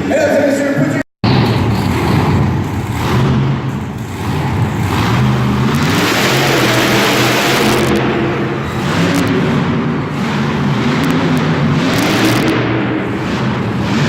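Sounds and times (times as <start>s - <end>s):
big truck engine revving: 1.2s - 14.0s.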